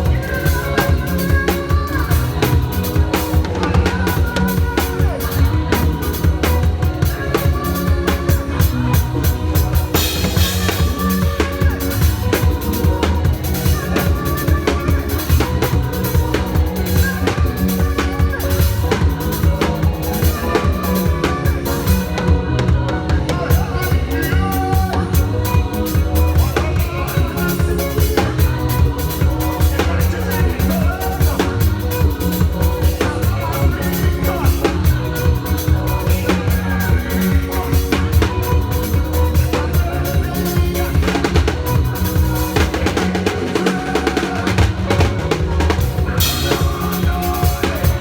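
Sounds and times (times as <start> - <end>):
drum kit bass drum and snare: 0.0 - 48.0
live praise band playing: 0.0 - 48.0.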